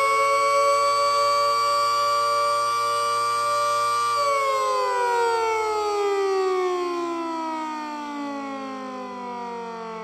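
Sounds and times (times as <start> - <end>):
dual-tone fire siren winding: 0.0 - 10.0.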